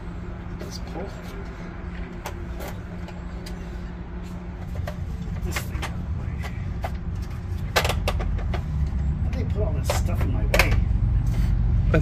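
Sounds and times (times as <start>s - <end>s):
faint hum: 0.0s - 12.0s
low rumble: 0.0s - 12.0s.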